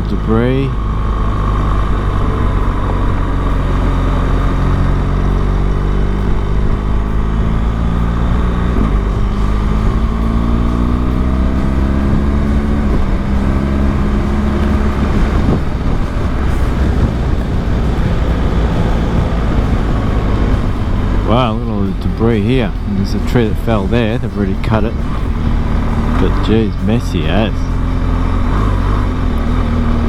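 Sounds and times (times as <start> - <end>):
motorcycle engine accelerating: 0.0 - 30.0
road and wind rush: 0.0 - 30.0.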